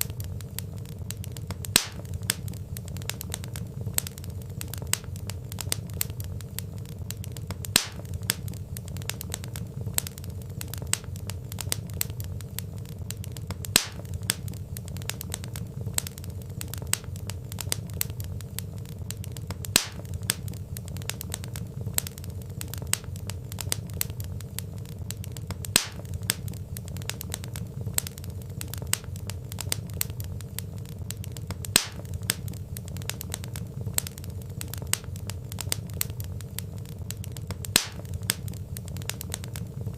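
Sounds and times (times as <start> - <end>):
low rumble of burning logs: 0.0 - 39.9
wood fire crackles and pops: 0.0 - 39.9.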